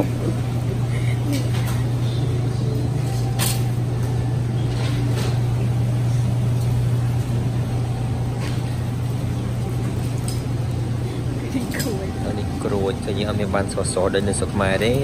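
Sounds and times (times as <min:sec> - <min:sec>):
motor vehicle droning hum: 0:00.0 - 0:15.0.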